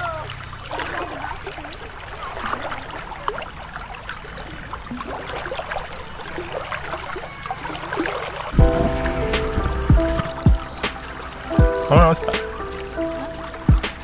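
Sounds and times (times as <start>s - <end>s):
low rumble of flowing water: 0.0s - 14.0s
river water babbling: 0.0s - 14.0s.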